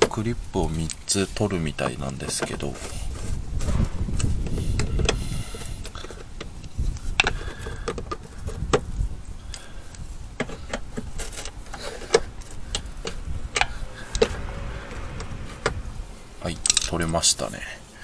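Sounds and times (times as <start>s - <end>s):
low rumbling handling noise: 0.0s - 18.0s.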